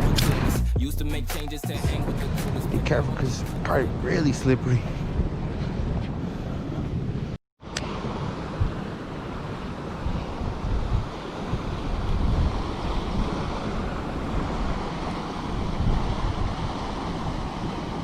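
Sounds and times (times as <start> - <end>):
wind buffeting microphone: 2.0 - 18.0.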